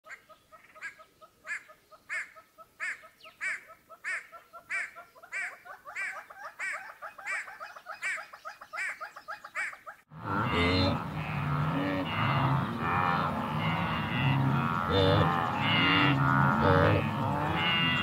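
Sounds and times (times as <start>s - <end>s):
animal calls: 0.1s - 18.0s.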